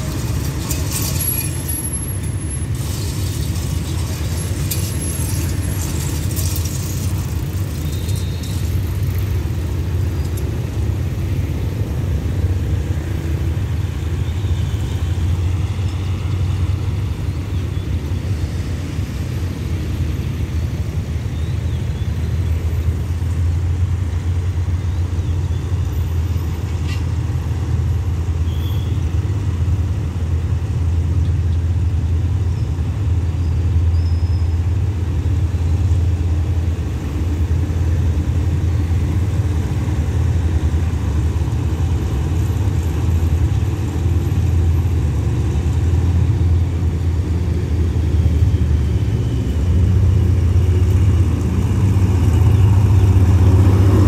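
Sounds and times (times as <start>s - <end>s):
motorcycles crossing rail tracks: 0.0s - 54.0s
road vehicle engines rumbling: 0.0s - 54.0s.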